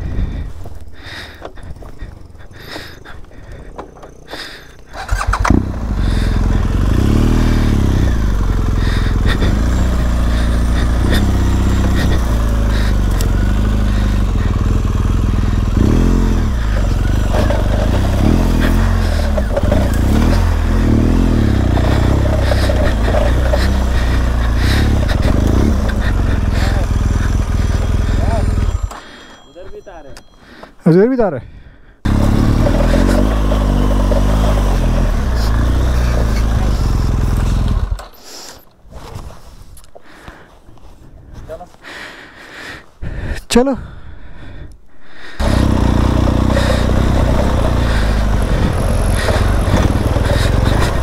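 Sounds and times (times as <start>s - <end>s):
motorcycle engine revving: 0.0s - 29.1s, 32.0s - 38.3s, 45.3s - 51.0s.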